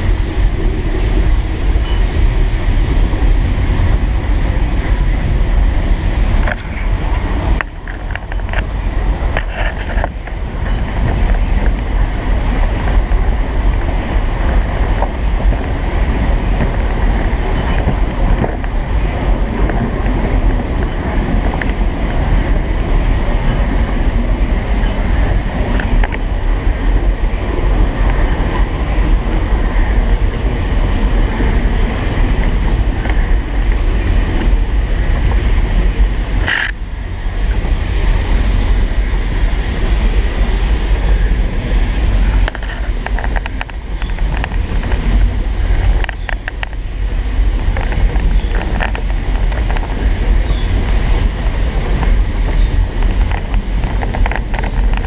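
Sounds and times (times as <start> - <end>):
steam train rumbling: 0.0 - 55.0
wind buffeting microphone: 0.0 - 55.0.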